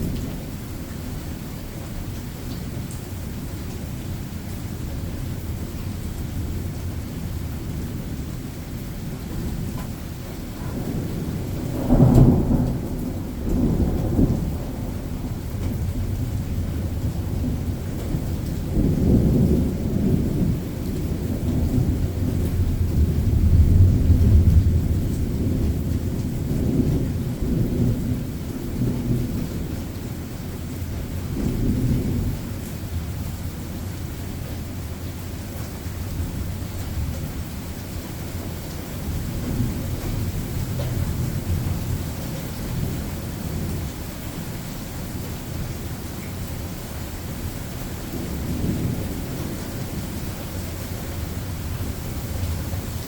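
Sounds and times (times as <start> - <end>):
steady rain: 0.0 - 53.0
thunder rumbling: 5.5 - 53.0.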